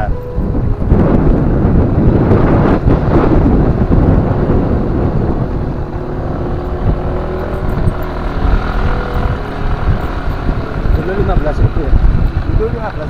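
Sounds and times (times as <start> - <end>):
vehicle engine running: 0.0 - 13.0
wind buffeting on microphone: 0.0 - 13.0.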